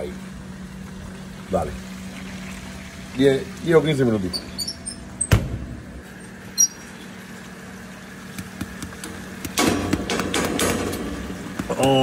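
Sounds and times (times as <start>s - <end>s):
oven humming: 0.0s - 12.0s.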